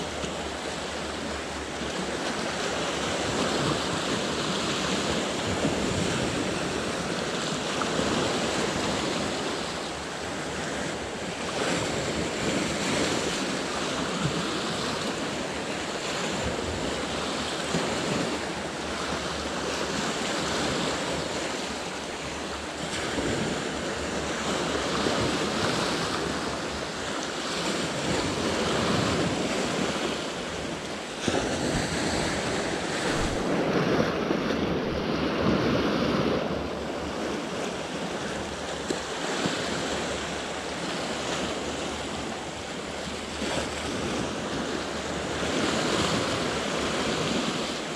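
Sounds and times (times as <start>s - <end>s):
sea surf washing in: 0.0s - 47.9s
wind on microphone: 0.0s - 47.9s.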